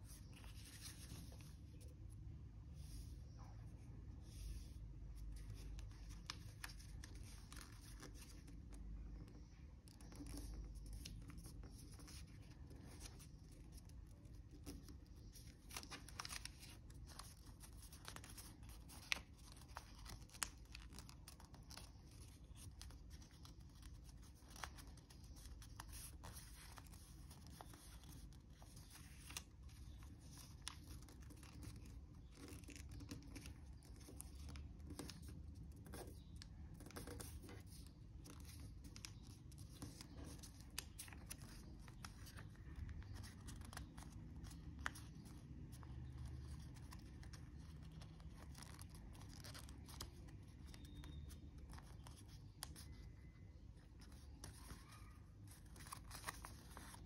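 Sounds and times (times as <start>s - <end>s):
paper being folded and creased: 0.0s - 2.1s, 4.2s - 57.0s.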